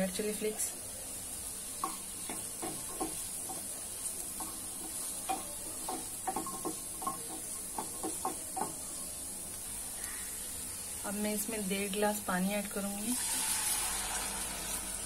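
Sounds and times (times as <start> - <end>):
oil sizzling: 0.0 - 15.0.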